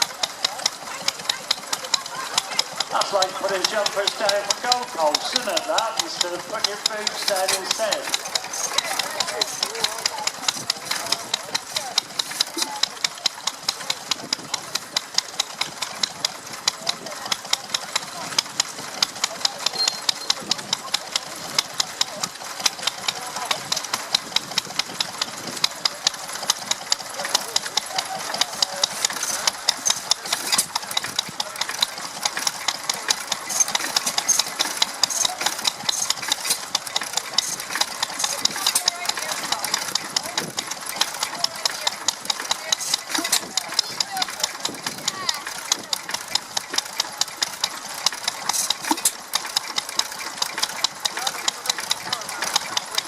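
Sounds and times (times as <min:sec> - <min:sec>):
sharp regular ticking: 0:00.0 - 0:53.0
stationary engine running: 0:00.0 - 0:53.0.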